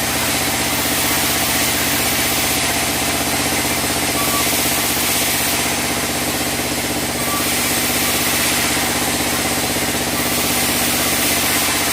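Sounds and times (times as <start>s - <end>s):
band saw running: 0.0s - 11.9s.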